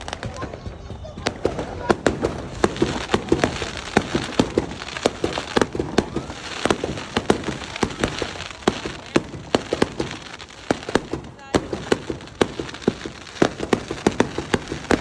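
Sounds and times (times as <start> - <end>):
continuous noisy hiss: 0.0 - 15.0
fireworks banging: 0.0 - 15.0.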